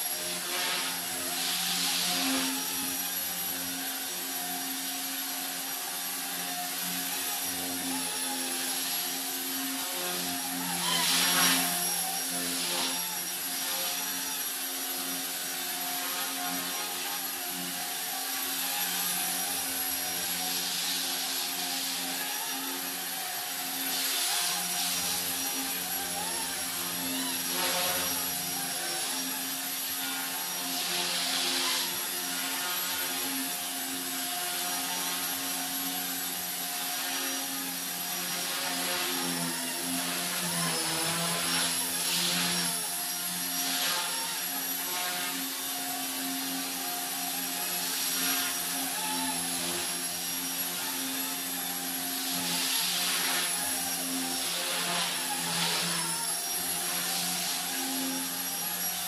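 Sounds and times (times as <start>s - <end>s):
electric motor whine: 0.0s - 59.0s
rc helicopter rotor buzz: 0.0s - 59.0s.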